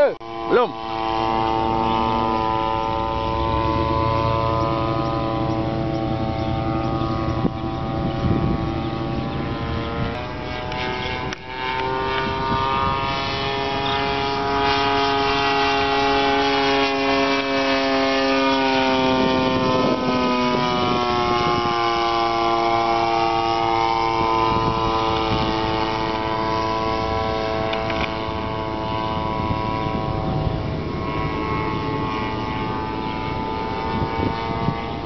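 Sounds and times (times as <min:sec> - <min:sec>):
model airplane engine buzzing: 0:00.0 - 0:35.0.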